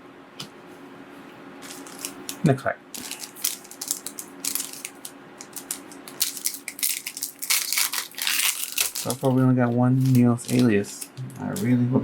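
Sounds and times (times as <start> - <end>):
foil wrapper crinkling and tearing: 1.7 - 11.6.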